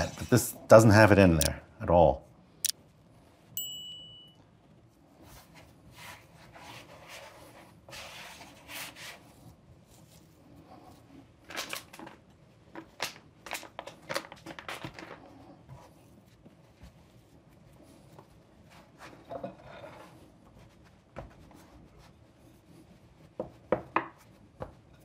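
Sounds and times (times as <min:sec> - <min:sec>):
hands kneading dough: 0:04.8 - 0:25.0.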